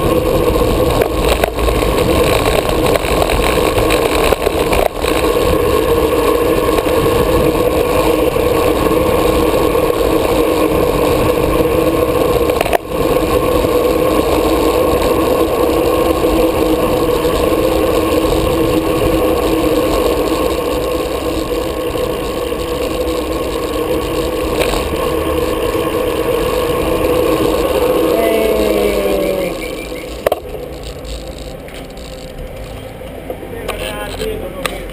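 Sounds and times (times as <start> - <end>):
low rumble of wind noise: 0.0 - 34.9
vehicle engine running: 0.0 - 34.9.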